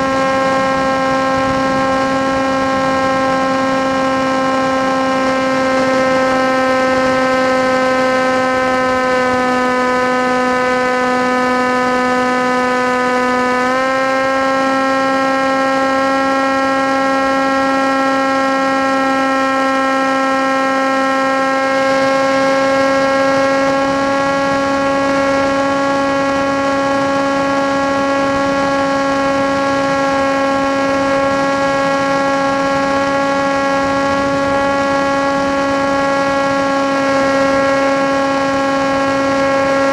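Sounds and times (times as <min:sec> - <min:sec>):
model aircraft motor humming: 0:00.0 - 0:39.9.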